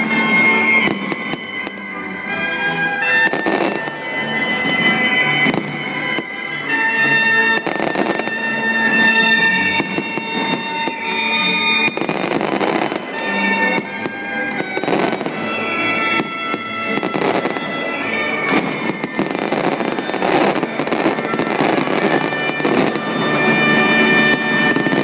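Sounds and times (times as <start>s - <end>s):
fireworks popping and crackling: 0.0s - 25.0s
music with long held notes: 0.0s - 25.0s.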